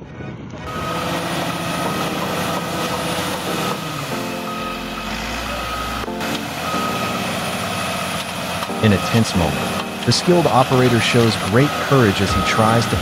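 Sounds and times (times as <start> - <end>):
heavy machine engine running: 0.6 - 13.0
reversing alarm beeping: 0.7 - 13.0.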